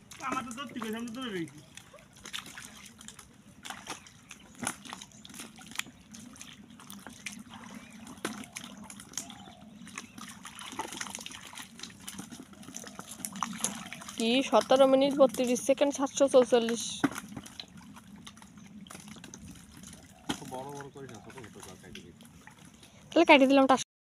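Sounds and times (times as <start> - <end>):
small splashes: 0.0 - 23.1
muddy water sloshing: 0.0 - 23.8.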